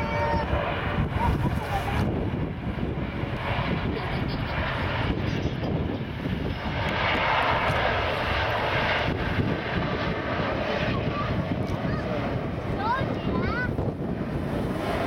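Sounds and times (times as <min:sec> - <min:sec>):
jet engines: 0:00.0 - 0:15.0
low rumble: 0:00.0 - 0:15.0.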